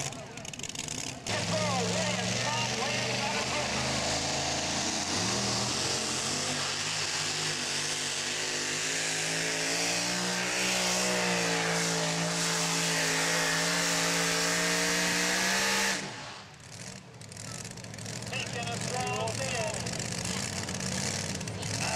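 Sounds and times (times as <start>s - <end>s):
truck engine running flat out: 0.0s - 9.7s, 10.4s - 21.9s.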